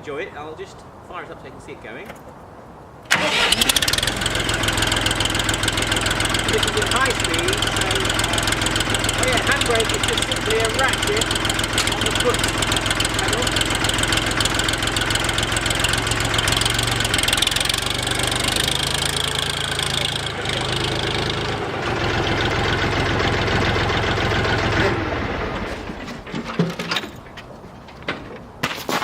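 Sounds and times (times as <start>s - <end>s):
tractor diesel engine running: 3.1s - 28.0s.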